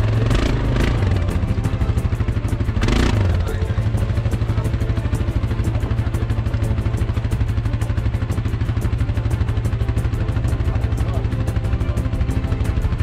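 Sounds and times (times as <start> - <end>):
quad engine running at low revs: 0.0 - 13.0.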